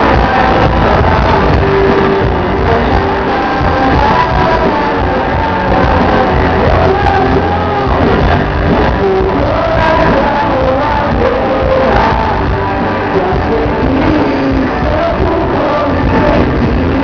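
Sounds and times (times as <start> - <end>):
live band playing: 0.0 - 17.0
people singing: 0.0 - 17.0.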